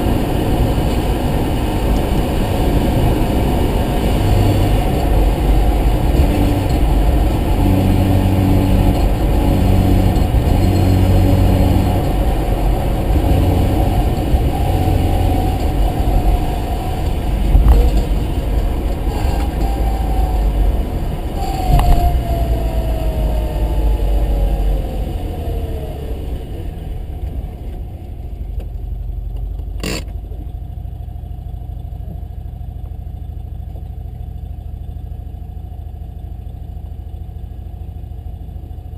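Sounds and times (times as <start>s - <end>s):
rotary engine running with whine: 0.0s - 38.9s.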